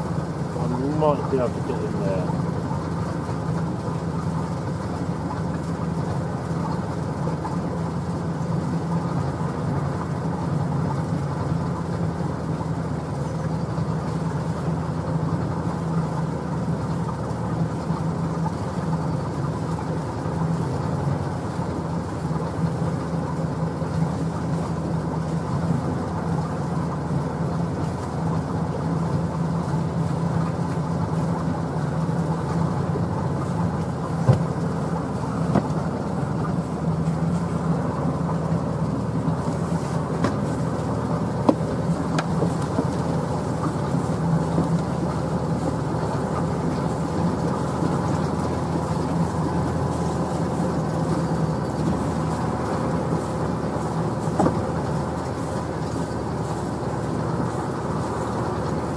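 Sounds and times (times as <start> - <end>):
boat motor running: 0.0 - 58.9.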